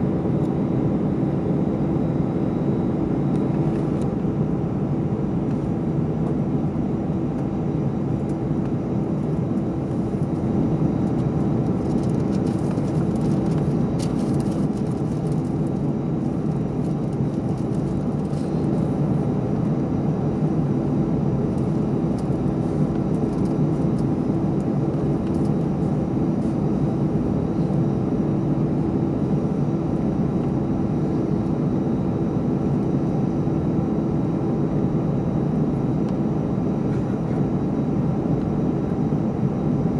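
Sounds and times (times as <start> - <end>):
aircraft cabin drone: 0.0 - 39.9.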